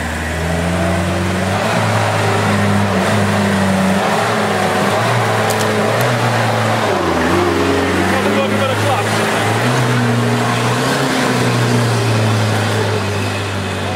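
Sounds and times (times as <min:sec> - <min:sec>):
driving through deep mud: 0:00.0 - 0:13.9
pickup engine revving under load: 0:00.0 - 0:13.9.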